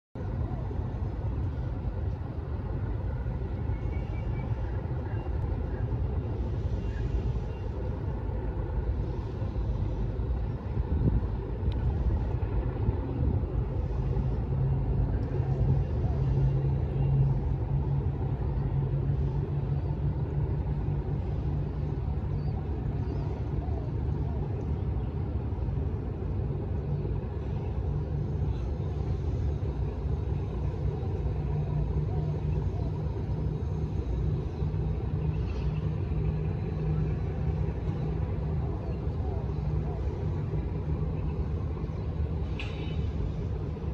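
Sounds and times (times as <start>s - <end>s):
constant low hum: 0.1s - 43.9s
low background rumble: 0.2s - 43.9s.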